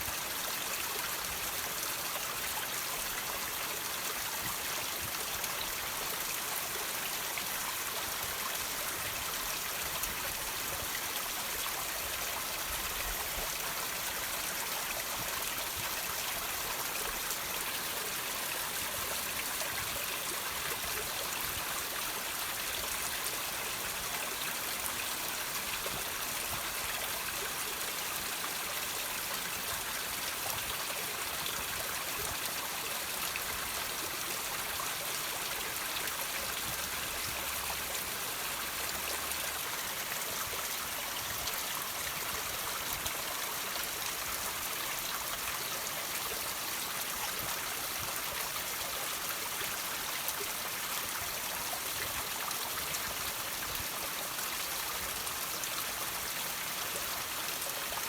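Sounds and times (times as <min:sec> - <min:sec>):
water trickling over rocks: 0:00.1 - 0:58.0.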